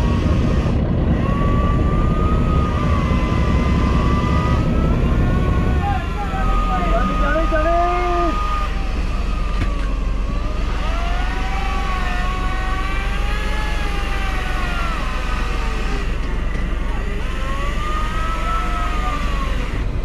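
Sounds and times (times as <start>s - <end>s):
boat engine droning: 0.0s - 20.0s
faint wavering tones: 1.6s - 20.0s.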